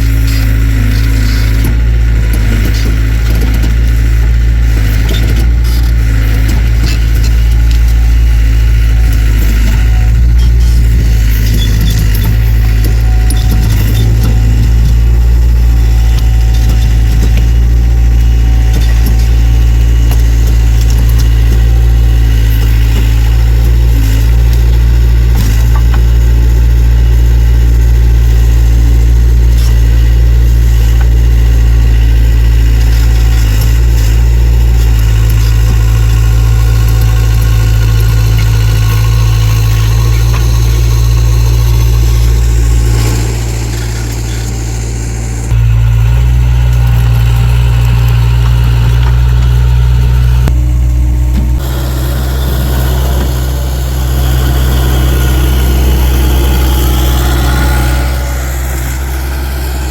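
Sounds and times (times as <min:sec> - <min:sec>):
diesel engine running loudly: 0:00.0 - 0:59.9.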